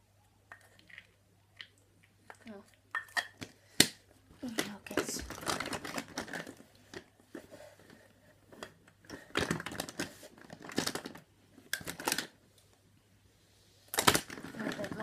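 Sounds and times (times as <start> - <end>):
rustling and handling noises: 2.0 - 15.0.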